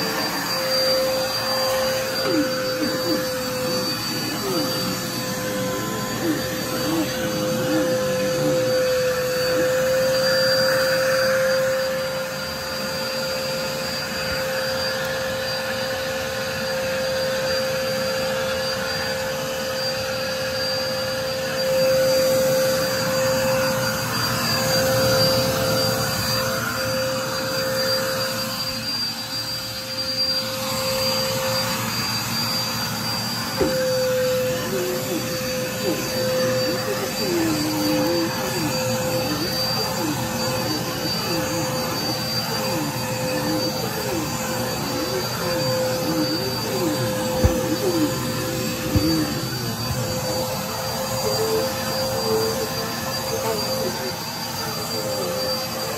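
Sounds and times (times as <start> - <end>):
vacuum cleaner running on carpet: 0.0 - 55.9.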